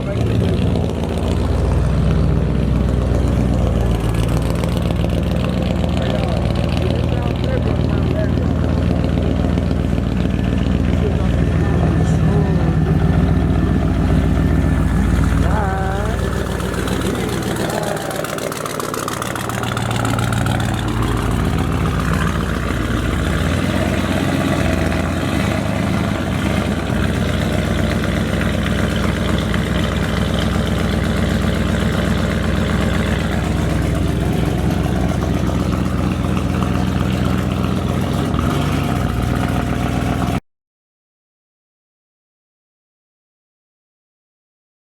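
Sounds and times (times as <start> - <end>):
pickup engine idling: 0.0 - 40.4.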